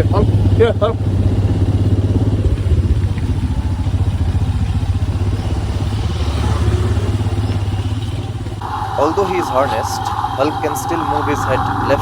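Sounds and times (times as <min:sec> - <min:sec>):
motorcycle engine throbbing: 0:00.0 - 0:12.0.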